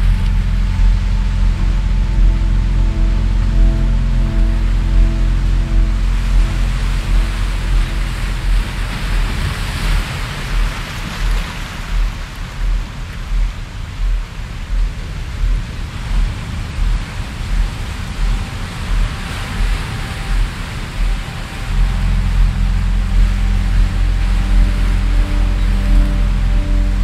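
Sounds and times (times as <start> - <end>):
hissing noise wash: 0.0 - 27.0
low bass pulse: 0.0 - 27.0.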